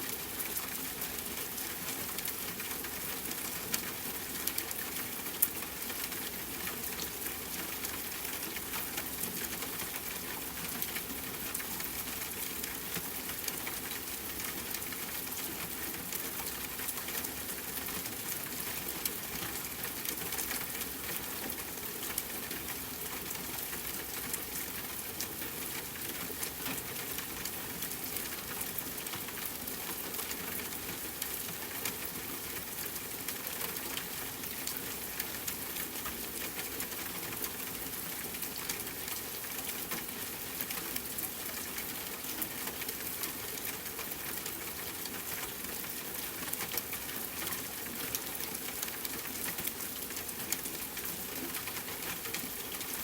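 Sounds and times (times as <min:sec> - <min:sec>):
rain on a tent: 0:00.0 - 0:53.0.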